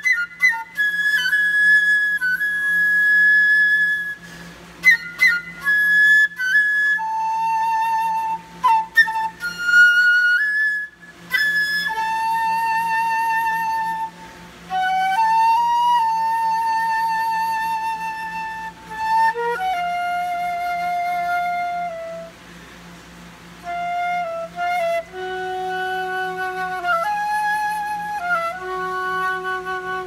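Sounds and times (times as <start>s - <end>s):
solo flute playing: 0.0s - 30.0s.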